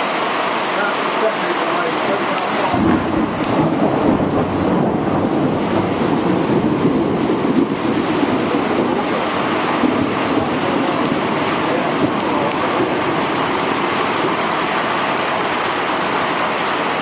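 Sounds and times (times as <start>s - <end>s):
torrential rain pouring: 0.0s - 17.0s.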